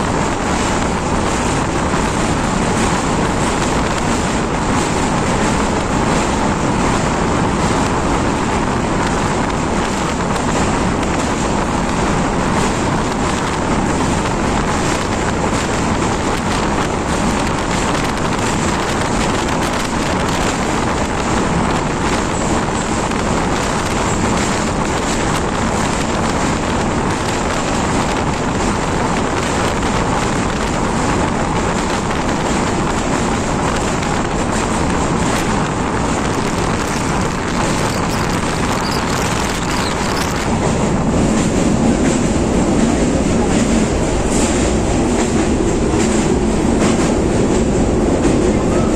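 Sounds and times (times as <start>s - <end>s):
train crossing steel bridge: 0.0s - 48.9s
wind buffeting microphone: 0.0s - 48.9s.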